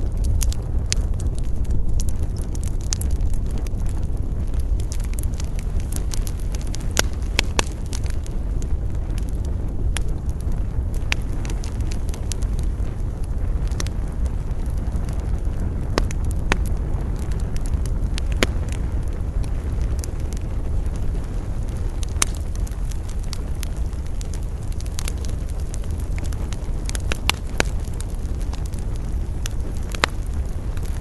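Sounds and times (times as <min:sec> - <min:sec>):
campfire crackling and popping: 0:00.0 - 0:31.0
low rumble of wind: 0:00.0 - 0:31.0.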